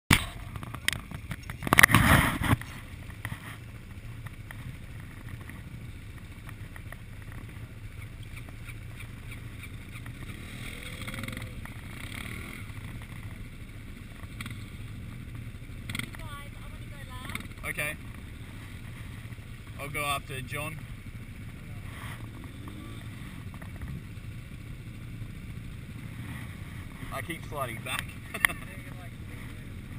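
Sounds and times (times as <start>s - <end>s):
quad bike engines idling: 0.1s - 29.9s.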